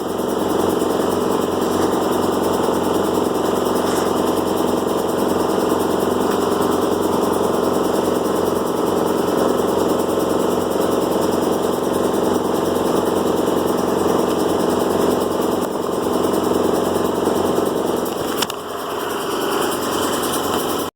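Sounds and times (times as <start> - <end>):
two-stroke engine idling: 0.0 - 20.9.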